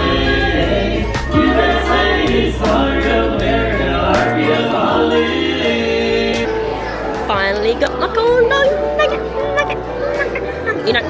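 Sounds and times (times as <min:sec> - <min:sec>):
music with singing and beat: 0:00.0 - 0:11.0.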